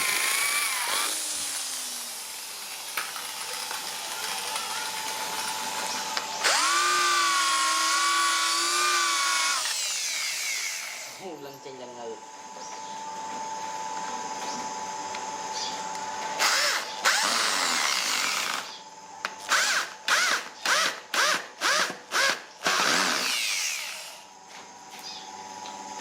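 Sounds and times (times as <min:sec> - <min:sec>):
electric drill running: 0:00.0 - 0:11.4, 0:14.8 - 0:24.4.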